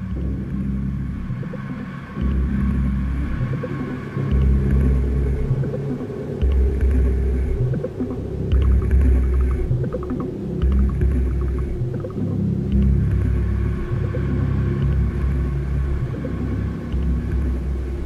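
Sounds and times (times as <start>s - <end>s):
continuous low drone: 0.0s - 18.0s
deep rumbling pulses: 0.0s - 18.0s.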